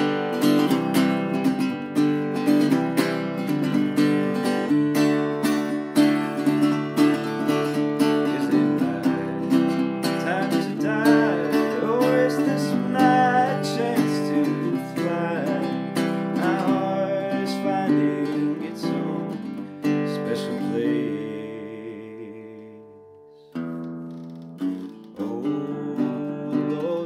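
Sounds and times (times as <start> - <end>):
man singing: 0.0 - 23.3, 25.1 - 27.0
acoustic guitar strumming: 0.0 - 27.0.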